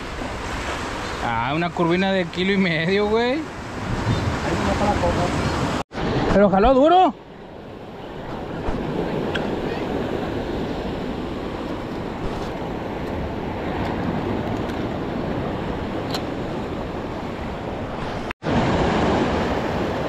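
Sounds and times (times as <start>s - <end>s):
waves breaking over rocks: 0.0s - 20.0s.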